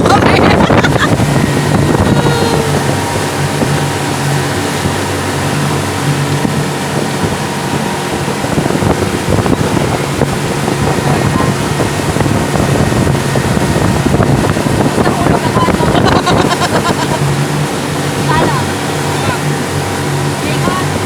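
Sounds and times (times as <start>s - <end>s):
motorboat engine running: 0.0s - 21.0s
rushing water: 0.0s - 21.0s
wind buffeting microphone: 0.0s - 21.0s.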